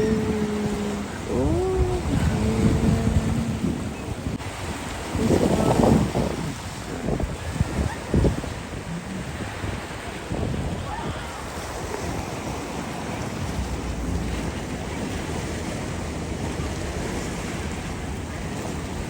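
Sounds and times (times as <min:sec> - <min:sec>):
sea surf rushing: 0:00.0 - 0:19.0
wind buffeting microphone: 0:00.0 - 0:19.0.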